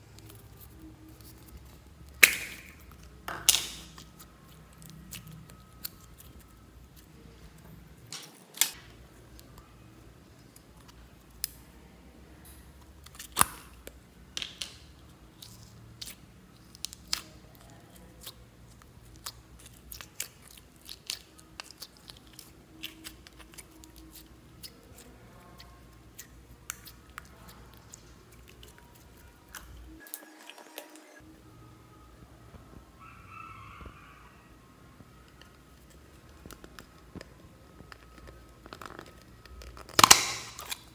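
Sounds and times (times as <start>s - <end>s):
slime squishing: 0.0s - 11.7s, 12.6s - 31.0s, 35.2s - 40.9s.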